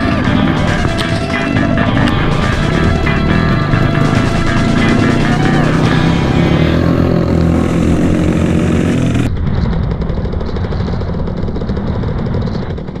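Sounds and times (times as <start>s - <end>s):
dirt bike engine running: 0.0s - 13.0s
pulsing engine: 0.0s - 13.0s.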